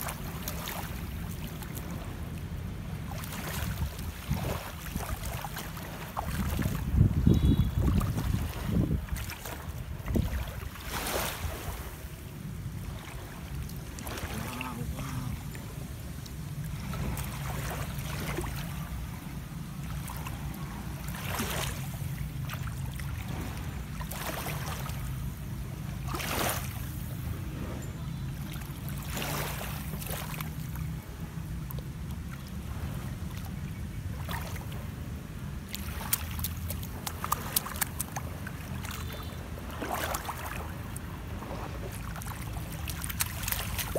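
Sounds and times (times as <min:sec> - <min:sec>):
small waves washing on shore: 0:00.0 - 0:43.9
wind rumble on microphone: 0:00.0 - 0:43.9.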